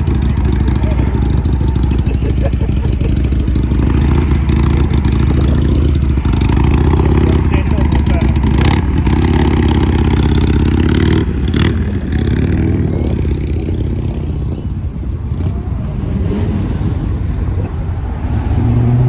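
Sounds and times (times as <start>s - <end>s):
loud vehicle engine running: 0.0s - 19.0s.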